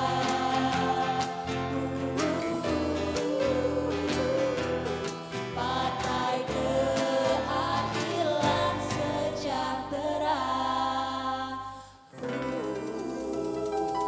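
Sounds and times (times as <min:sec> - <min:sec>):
singing over instrumental backing: 0:00.0 - 0:14.0.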